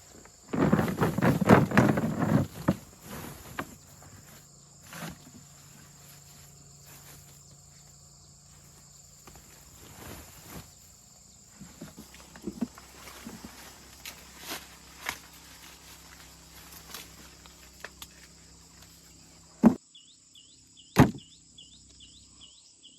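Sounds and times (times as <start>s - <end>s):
rustling handling noise: 0.0s - 19.5s
high insect drone: 0.0s - 22.9s.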